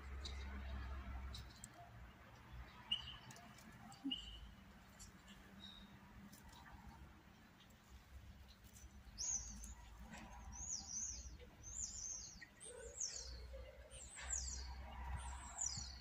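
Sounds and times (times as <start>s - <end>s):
bird chirping: 2.4s - 6.8s, 7.4s - 16.0s.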